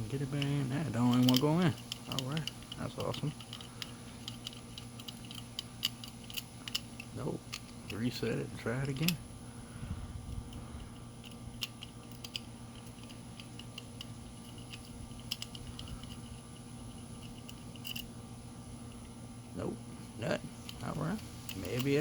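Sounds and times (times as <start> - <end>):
lock pick clicking and scraping: 0.0 - 9.2, 10.3 - 18.2, 20.5 - 22.0.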